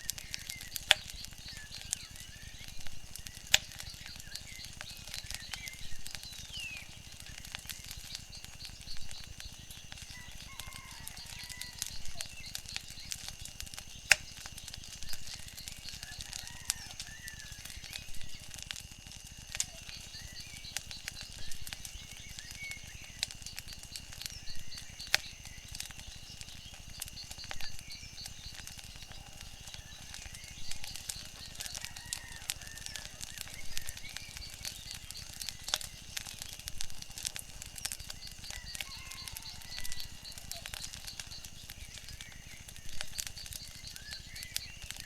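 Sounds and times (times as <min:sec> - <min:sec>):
birds chirping: 0:00.0 - 0:18.7, 0:19.5 - 0:45.0
wood fire crackling and popping: 0:00.0 - 0:45.0.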